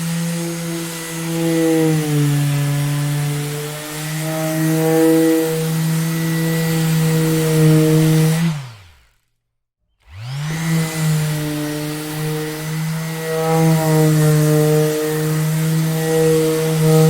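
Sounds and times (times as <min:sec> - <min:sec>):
orbital sander motor: 0:00.0 - 0:09.4, 0:10.0 - 0:17.0.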